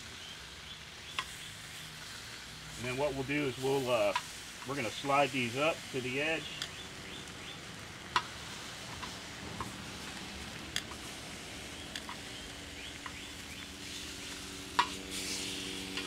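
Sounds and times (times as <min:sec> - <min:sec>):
meat sizzling on hot steel: 0:00.0 - 0:16.0.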